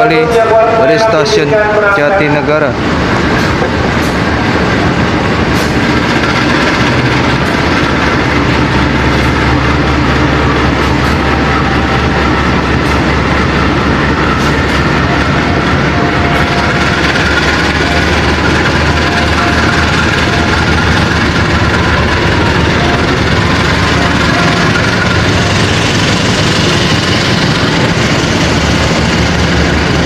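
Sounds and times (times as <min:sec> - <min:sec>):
train rumbling by: 0:00.0 - 0:30.0.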